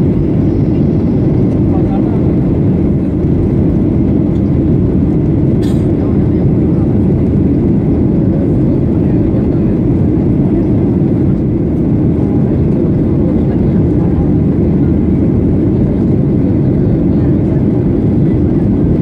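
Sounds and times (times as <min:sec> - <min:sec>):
airplane cabin drone: 0:00.0 - 0:19.0.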